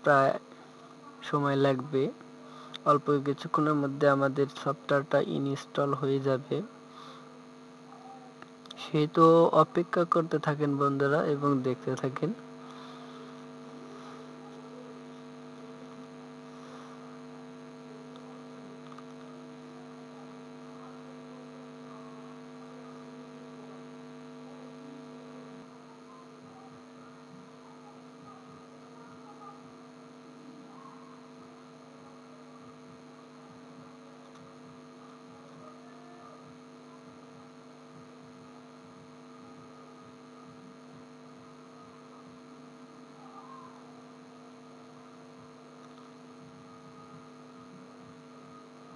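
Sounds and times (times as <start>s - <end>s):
faint electrical mains hum: 0.0s - 48.9s.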